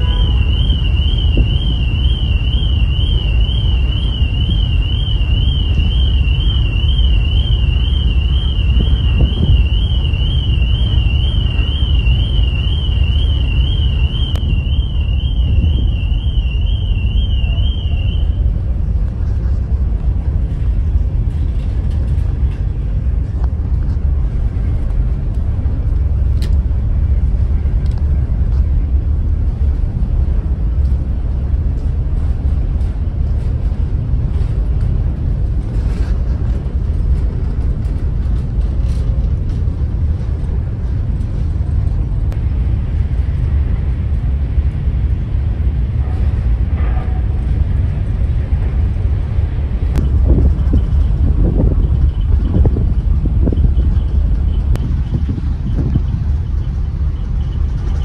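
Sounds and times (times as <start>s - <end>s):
ferry engine rumble: 0.0s - 58.0s
low rumble of wind: 0.0s - 58.0s.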